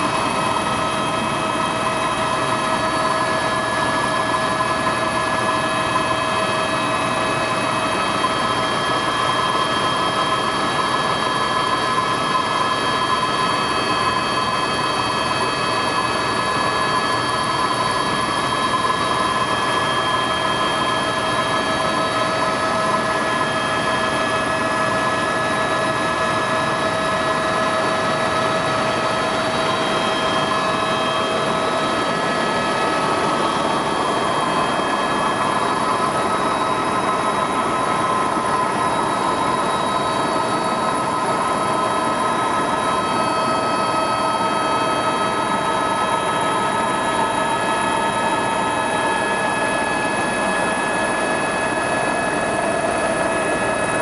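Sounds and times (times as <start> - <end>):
helicopter cabin rushing noise: 0.0 - 54.0.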